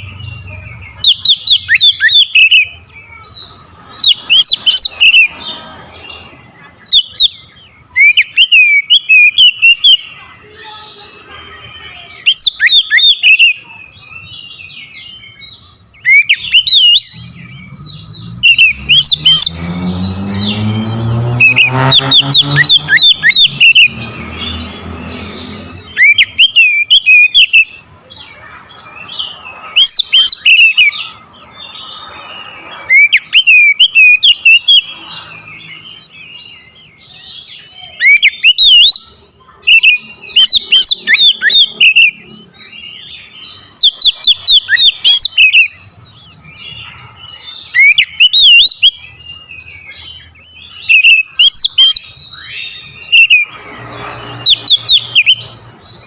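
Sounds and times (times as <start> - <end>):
bird singing whistled phrases: 0.0 - 5.4, 6.8 - 24.6, 25.2 - 28.4, 29.0 - 31.2, 31.8 - 55.6
bird chatter: 0.0 - 56.0.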